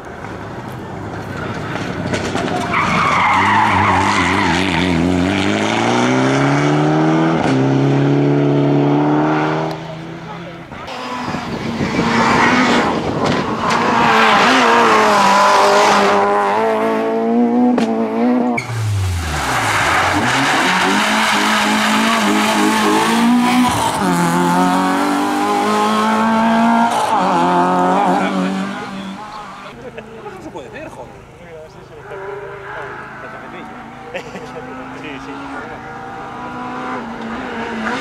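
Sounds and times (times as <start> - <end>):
rally car engines revving: 0.0 - 38.0
car engine revving through corner: 1.3 - 30.4, 31.0 - 38.0.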